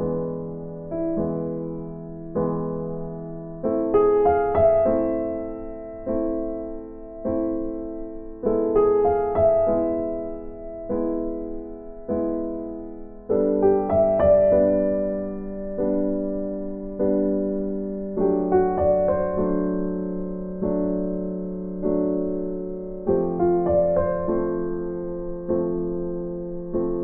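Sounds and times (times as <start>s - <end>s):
slow piano chords: 0.0s - 27.0s.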